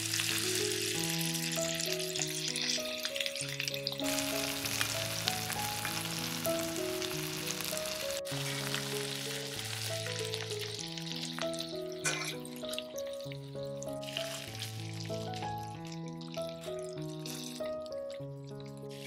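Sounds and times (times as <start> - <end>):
chicken wings sizzling in oil: 0.0 - 19.0
soft background music: 0.0 - 19.0.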